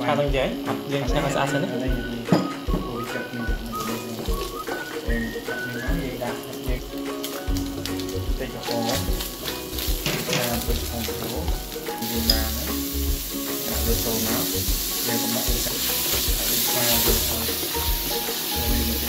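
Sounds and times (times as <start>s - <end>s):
background music: 0.0s - 19.0s
spice paste sizzling in oil: 0.0s - 19.0s.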